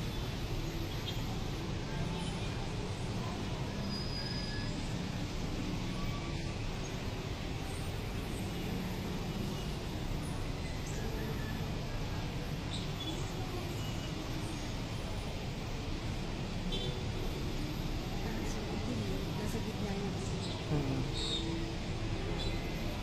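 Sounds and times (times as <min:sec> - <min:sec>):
low traffic rumble: 0:00.0 - 0:23.0.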